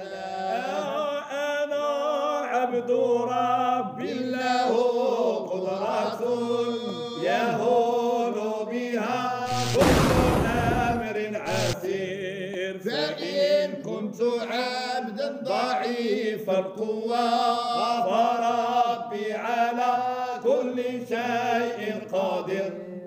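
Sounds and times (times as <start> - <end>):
voices chanting devotional song: 0.0 - 23.0.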